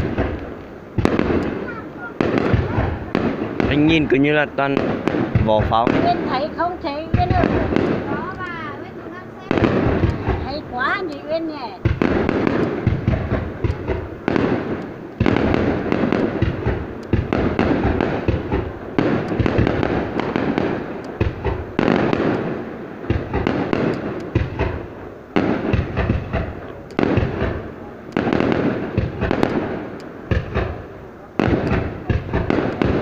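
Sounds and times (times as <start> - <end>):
firework shells booming: 0.0 - 33.0
fireworks crackling: 0.0 - 33.0.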